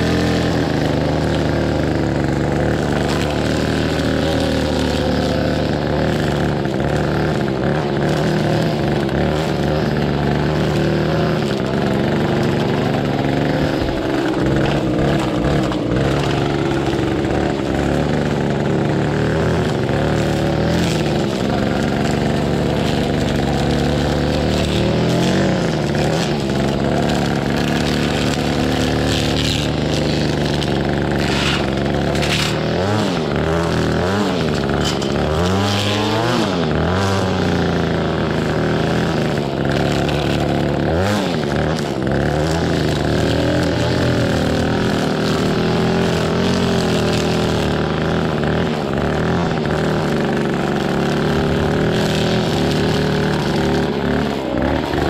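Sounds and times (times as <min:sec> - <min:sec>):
string trimmer engine running: 0:00.0 - 0:55.0
trimmer line cutting grass: 0:00.0 - 0:55.0.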